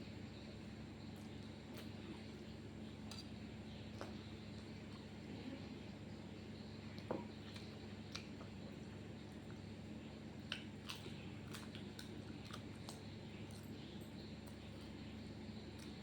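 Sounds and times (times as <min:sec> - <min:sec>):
steady low hum: 0:00.0 - 0:16.0
person chewing food: 0:01.0 - 0:05.3, 0:06.8 - 0:16.0.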